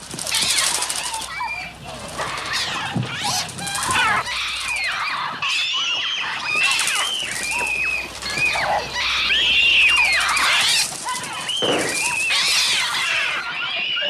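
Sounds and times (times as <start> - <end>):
synthetic bird screeches: 0.2 - 14.0.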